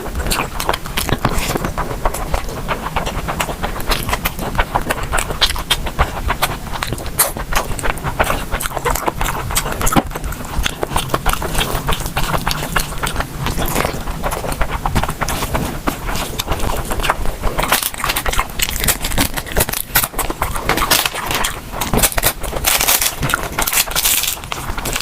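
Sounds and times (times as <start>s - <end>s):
chewing and mouth sounds: 0.0s - 25.0s.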